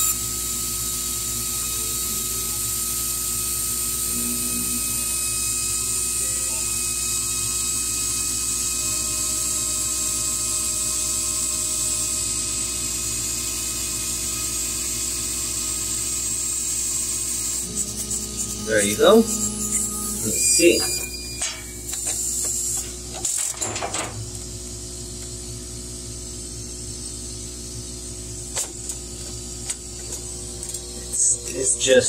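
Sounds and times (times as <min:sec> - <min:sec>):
laser cutter hissing and humming: 0:00.0 - 0:32.0.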